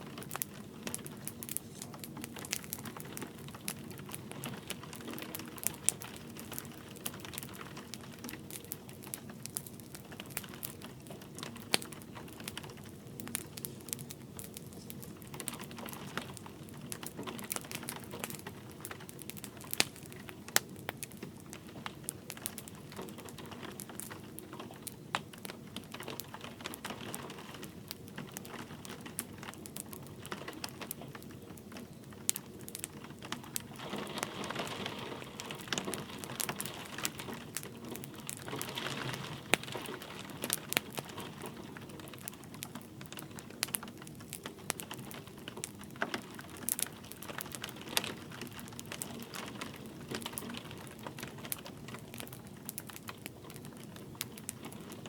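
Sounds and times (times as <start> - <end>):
light rain hissing: 0.0 - 55.0
wood fire crackling and popping: 0.0 - 55.0.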